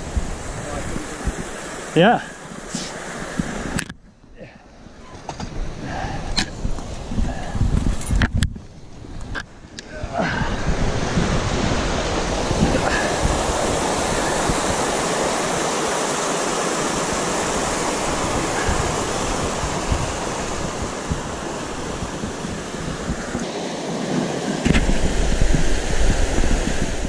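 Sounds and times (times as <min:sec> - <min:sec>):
wind buffeting microphone: 0:00.0 - 0:02.3, 0:05.0 - 0:23.5, 0:24.2 - 0:27.0.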